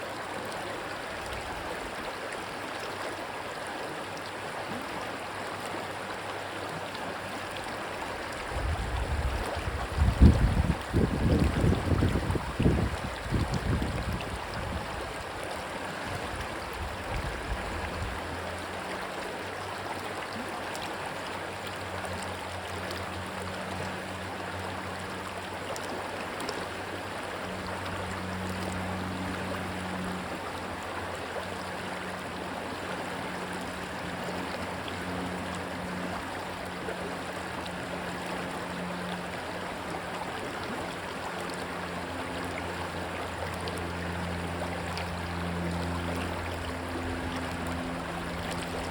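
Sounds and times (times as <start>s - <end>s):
rushing stream water: 0.0s - 48.9s
low steady hum: 6.4s - 48.9s.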